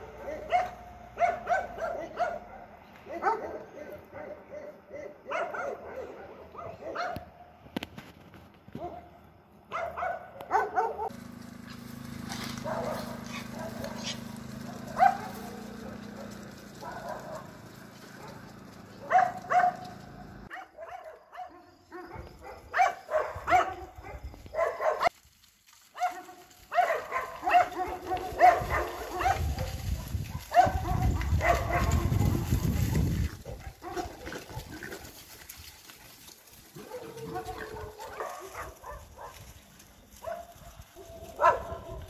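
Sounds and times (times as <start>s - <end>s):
dogs barking: 0.0s - 7.6s, 8.8s - 25.1s, 26.0s - 35.2s, 36.1s - 39.5s, 40.2s - 42.0s.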